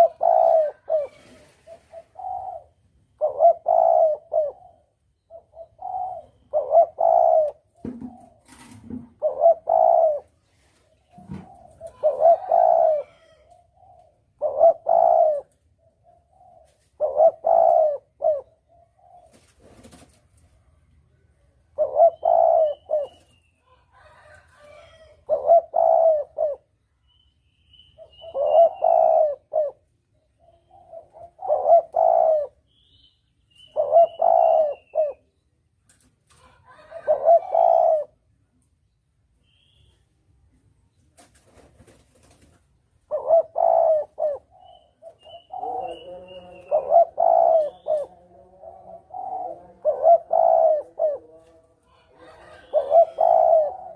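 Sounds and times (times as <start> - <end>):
dove cooing: 0.0 - 20.0, 21.7 - 26.8, 28.0 - 32.9, 33.6 - 35.4, 36.4 - 38.3, 43.0 - 53.9.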